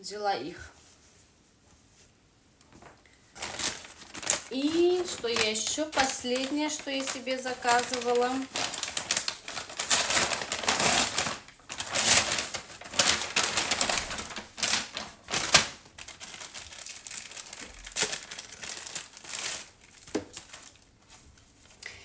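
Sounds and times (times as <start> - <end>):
plastic packaging crinkling: 2.8 - 21.5.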